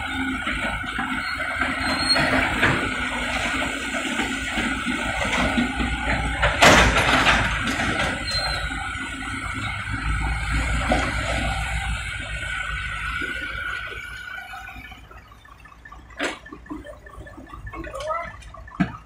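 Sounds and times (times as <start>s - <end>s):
excavator engine and hydraulics: 0.0s - 19.0s.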